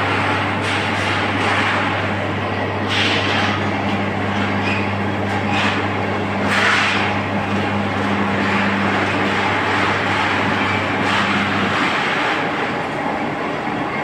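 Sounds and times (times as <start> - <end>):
industrial din: 0.0 - 13.9
machinery low hum: 0.0 - 14.0.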